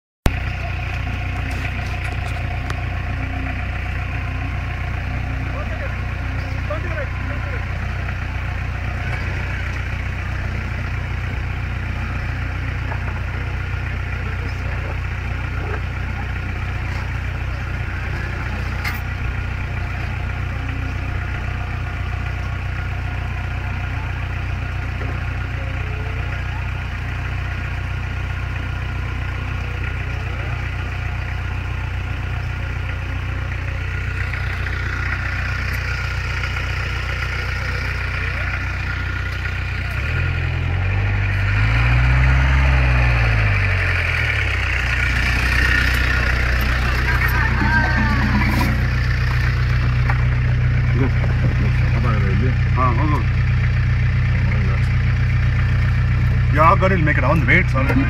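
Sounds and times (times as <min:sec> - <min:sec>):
car engine idling: 0:00.2 - 0:58.0.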